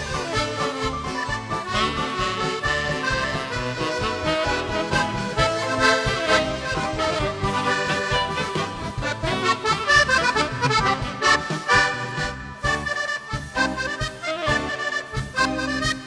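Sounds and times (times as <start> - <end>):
accordion playing: 0.0 - 16.0.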